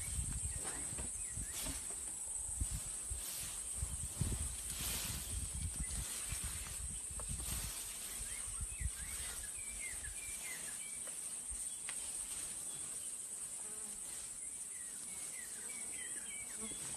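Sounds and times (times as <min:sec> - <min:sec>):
insects droning at high pitch: 0:00.0 - 0:16.9.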